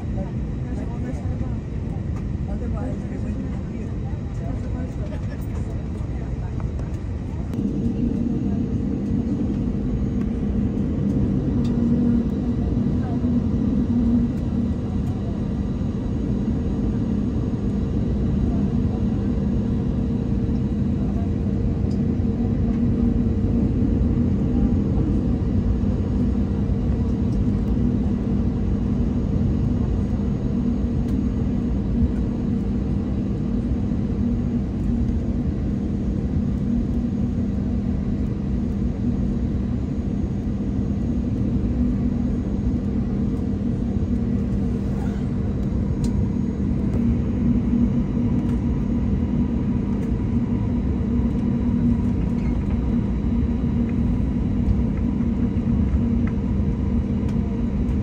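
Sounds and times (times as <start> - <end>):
airliner engine rumble: 0.0 - 58.0
constant cabin hum: 0.0 - 58.0.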